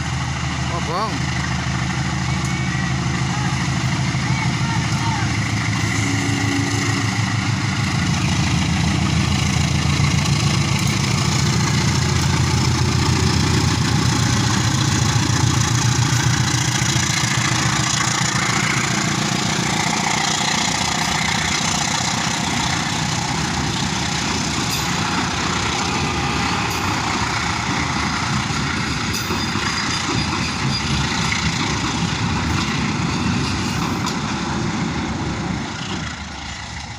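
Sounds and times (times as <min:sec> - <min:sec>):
diesel locomotive engine rumble: 0:00.0 - 0:36.9
train rolling and rattling: 0:00.0 - 0:36.9.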